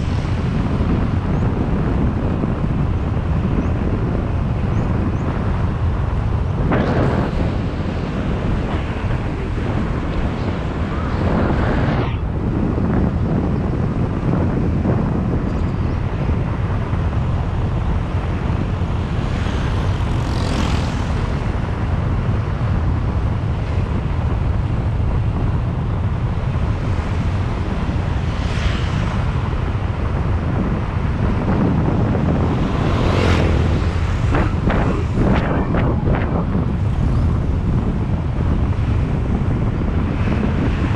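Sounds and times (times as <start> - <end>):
motorbike engine and road drone: 0.0 - 40.9
wind rushing over microphone: 0.0 - 40.9.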